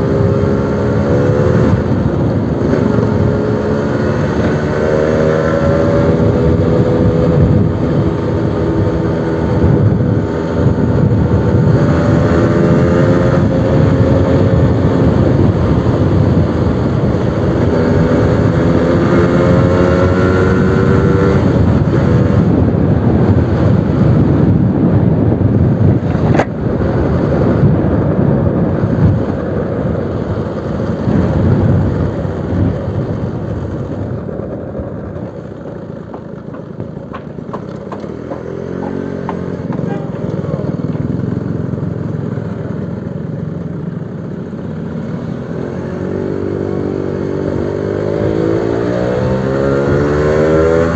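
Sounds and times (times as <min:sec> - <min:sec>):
two-stroke motorcycle engine revving: 0:00.0 - 0:34.4, 0:35.4 - 0:50.9.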